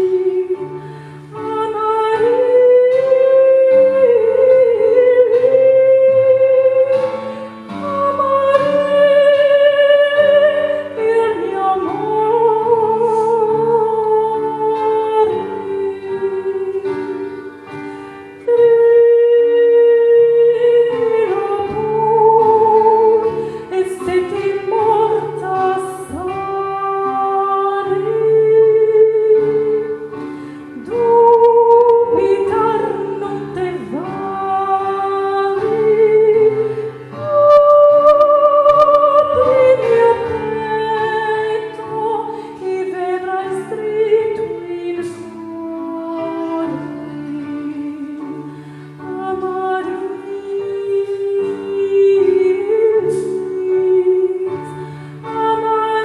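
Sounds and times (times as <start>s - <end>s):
instrumental accompaniment: 0.0s - 56.0s
opera-style singing: 0.0s - 56.0s.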